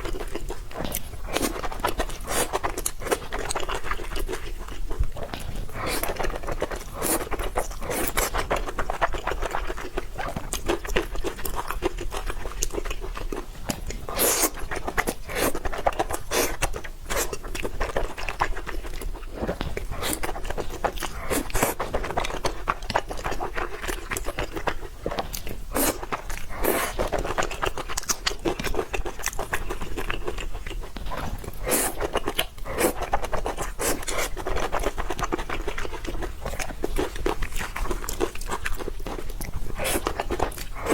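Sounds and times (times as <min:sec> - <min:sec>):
person chewing noodles: 0:00.0 - 0:40.9.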